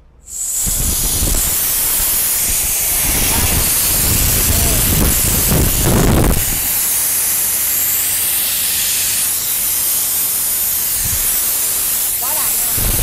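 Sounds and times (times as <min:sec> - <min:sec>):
air compressor hissing: 0:00.2 - 0:13.0.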